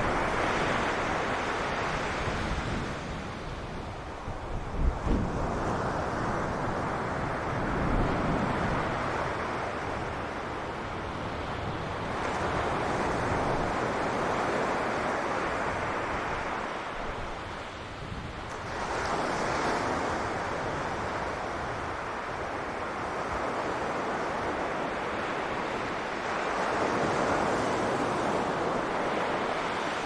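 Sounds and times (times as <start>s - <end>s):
sea waves washing onto beach: 0.0s - 30.0s
wind buffeting microphone: 0.0s - 30.0s.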